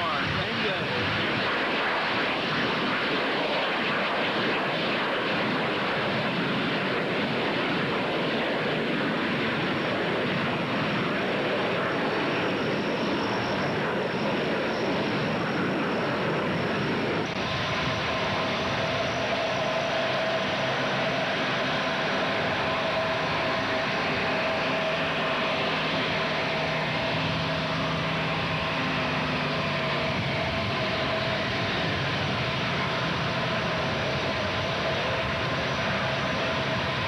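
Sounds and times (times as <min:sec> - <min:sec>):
high whine: 0:00.0 - 0:37.0
jet aircraft flying past: 0:00.0 - 0:37.0.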